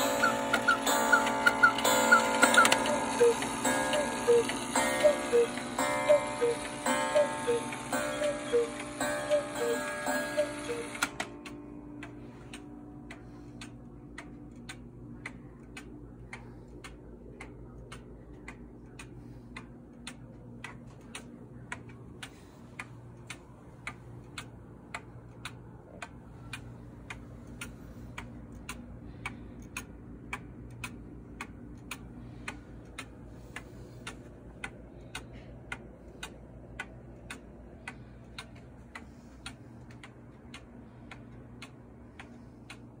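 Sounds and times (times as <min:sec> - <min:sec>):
wall clock ticking: 0:00.0 - 0:43.0.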